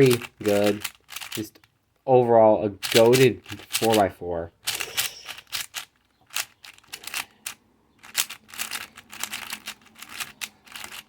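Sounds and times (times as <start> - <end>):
puzzle cube plastic clicks: 0.0 - 1.9, 2.8 - 11.0.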